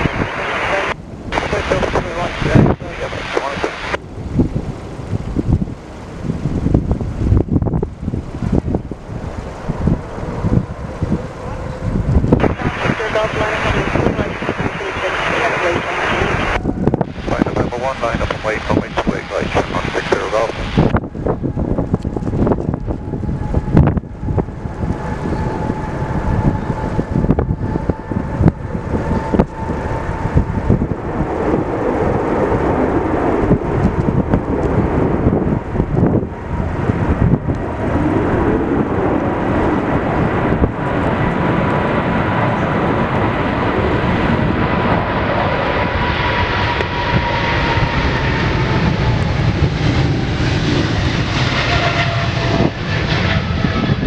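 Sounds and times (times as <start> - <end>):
jet engine whine at takeoff: 0.0 - 54.0
wind gusts on microphone: 0.0 - 54.0.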